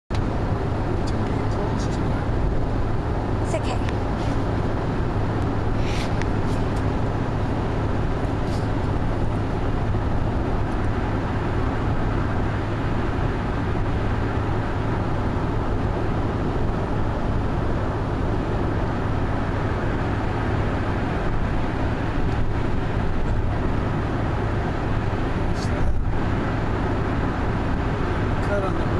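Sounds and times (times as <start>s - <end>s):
car engine and road noise: 0.1s - 28.9s
constant low hum: 0.1s - 28.9s.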